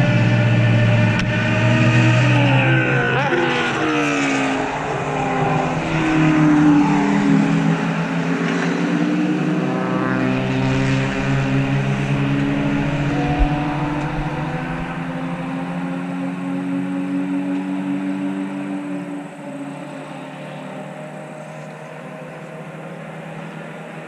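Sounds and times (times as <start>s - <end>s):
race car engines passing by: 0.0s - 24.0s.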